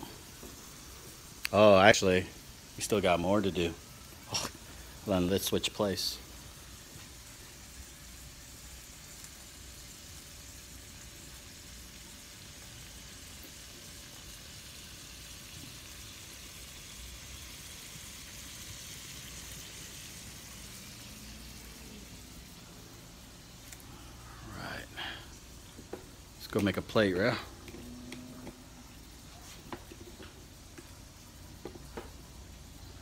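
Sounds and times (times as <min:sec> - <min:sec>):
food sizzling on a griddle: 0:00.0 - 0:33.0.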